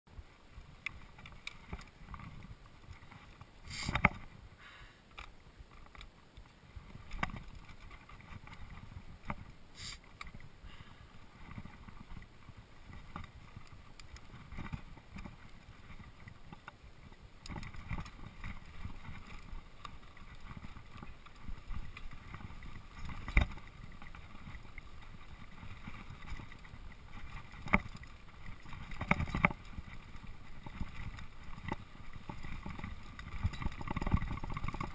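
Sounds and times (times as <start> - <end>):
bike tyre rumble and rattle: 0.1 - 34.9.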